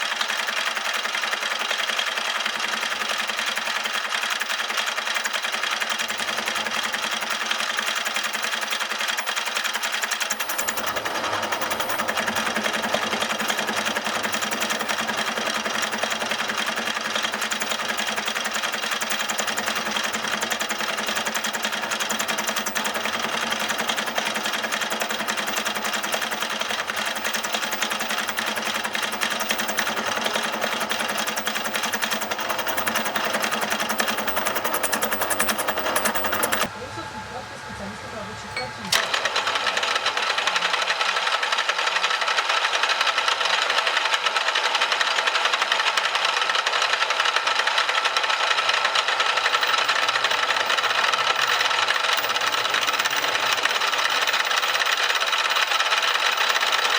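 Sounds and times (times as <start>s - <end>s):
machine tool rattle and hum: 0.0s - 36.7s, 38.9s - 56.9s.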